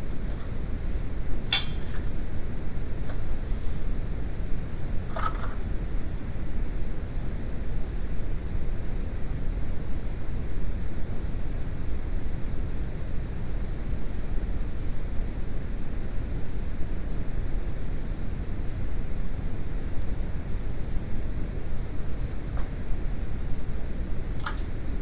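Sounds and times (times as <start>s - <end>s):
steady low rumbling noise: 0.0s - 25.0s.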